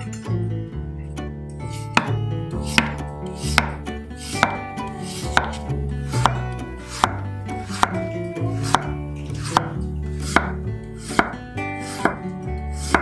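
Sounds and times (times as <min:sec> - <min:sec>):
knife slicing potato on board: 0:01.7 - 0:13.0.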